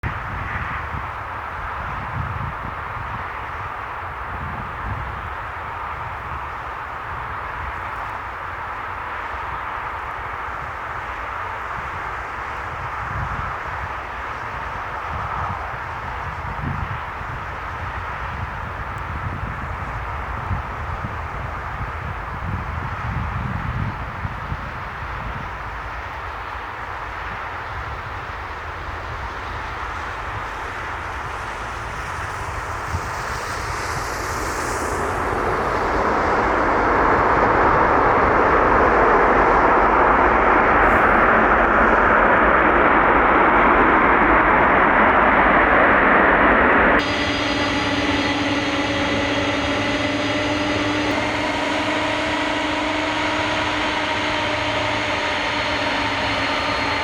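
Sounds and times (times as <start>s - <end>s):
jet engines roaring: 0.1s - 57.0s
whining engine tones: 1.5s - 57.0s.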